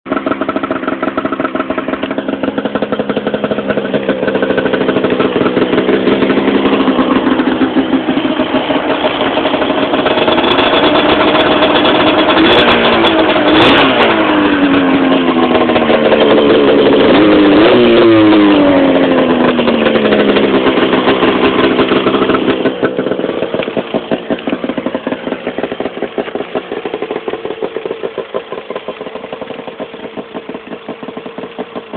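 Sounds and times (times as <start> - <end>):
snowmobile engine idling: 0.1 - 31.9.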